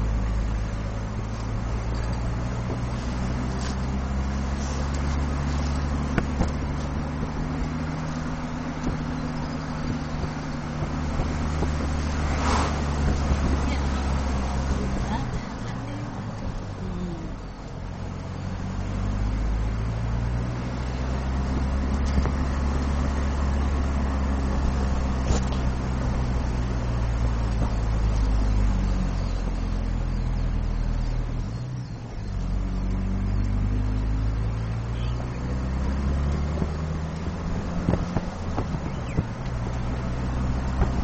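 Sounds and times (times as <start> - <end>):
car engine running: 0.0 - 41.0
tyres on road: 0.0 - 41.0.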